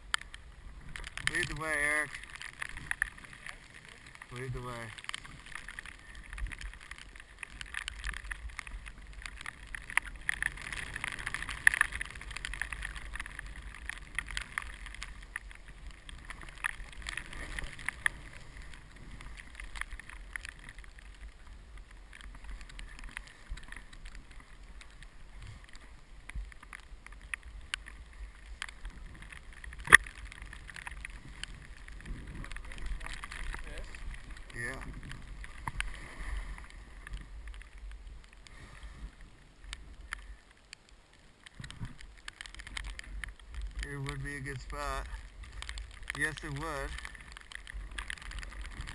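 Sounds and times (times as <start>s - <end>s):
small ticks: 0.0s - 48.9s.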